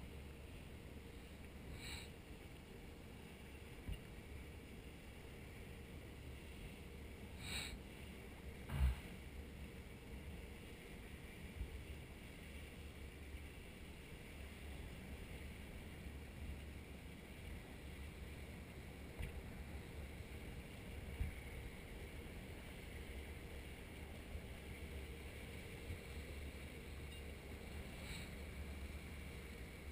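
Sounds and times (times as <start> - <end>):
faint wind rumble: 0.0 - 29.9.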